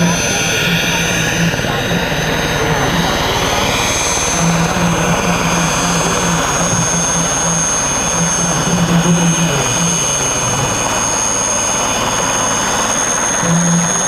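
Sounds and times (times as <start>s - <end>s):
helicopter rotor beating: 0.0s - 14.0s
helicopter turbine whine: 0.0s - 14.0s.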